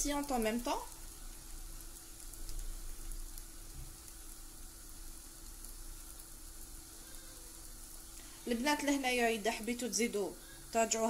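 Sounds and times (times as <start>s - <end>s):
batter sizzling in frying pan: 0.0s - 11.0s
thin steady hum: 0.0s - 11.0s.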